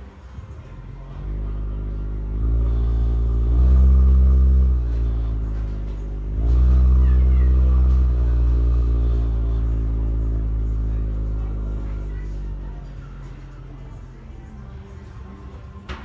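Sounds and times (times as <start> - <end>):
deep bass drone from speaker: 0.0 - 15.4.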